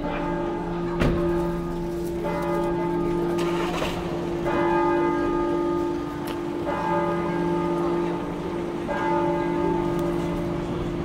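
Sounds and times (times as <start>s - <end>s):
large church bell ringing: 0.0s - 11.0s.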